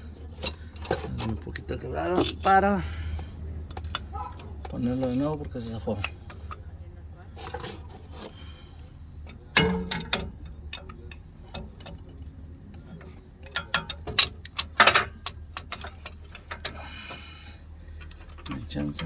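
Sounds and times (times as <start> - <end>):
metal tools clicking and clanking: 0.0 - 6.7, 9.2 - 19.0.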